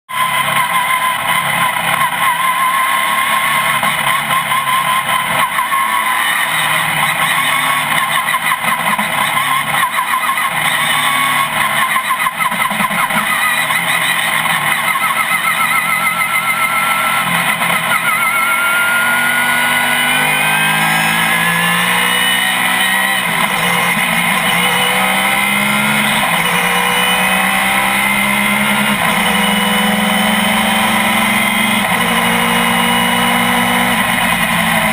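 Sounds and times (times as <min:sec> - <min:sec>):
race car engine running: 0:00.1 - 0:34.9.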